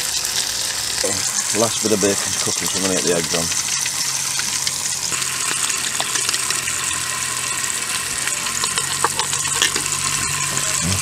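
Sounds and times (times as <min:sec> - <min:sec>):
bacon and egg sizzling in pans: 0:00.0 - 0:11.0.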